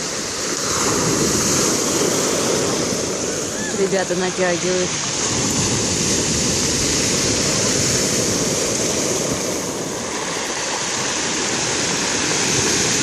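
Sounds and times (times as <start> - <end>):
sea waves washing onto shore: 0.0 - 13.0.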